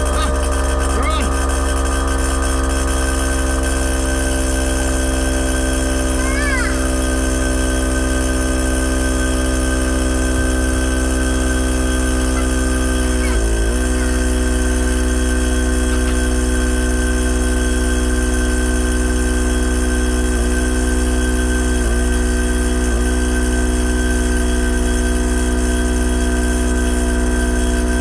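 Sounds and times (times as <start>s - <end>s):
electric air compressor running: 0.0s - 28.0s.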